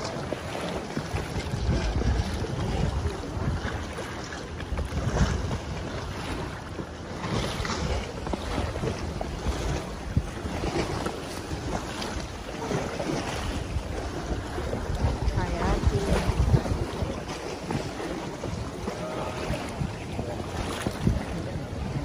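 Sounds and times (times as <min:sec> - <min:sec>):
paddle splashing: 0:00.0 - 0:22.0
water lapping: 0:00.0 - 0:22.0
wind buffeting microphone: 0:00.0 - 0:22.0.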